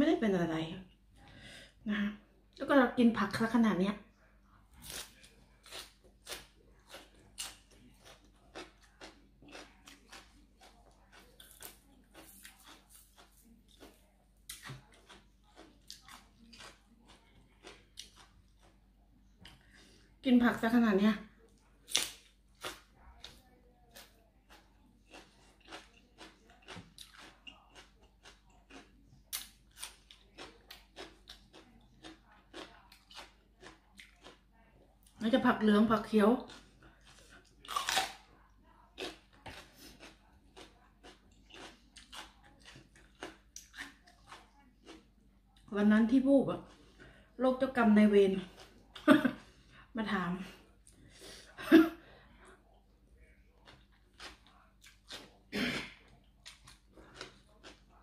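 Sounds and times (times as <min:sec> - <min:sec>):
person chewing cucumber: 0:04.6 - 0:20.2, 0:21.4 - 0:35.2, 0:36.4 - 0:45.7, 0:46.5 - 0:47.3, 0:48.4 - 0:49.8, 0:52.4 - 0:58.0.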